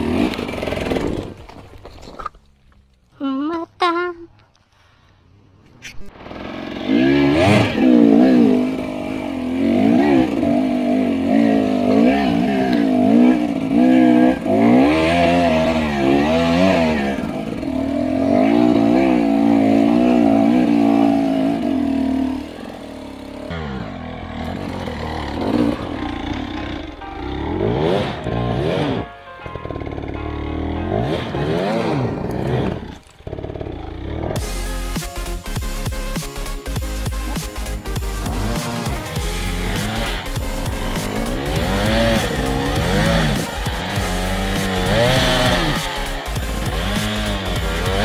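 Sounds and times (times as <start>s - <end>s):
motorcycle engine revving: 0.0s - 1.9s, 6.1s - 48.0s.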